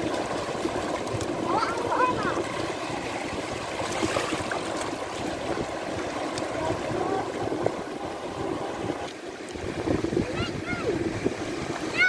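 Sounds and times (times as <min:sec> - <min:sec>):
child wading and splashing: 0:00.0 - 0:09.7
seawater washing over rocks: 0:00.0 - 0:12.0.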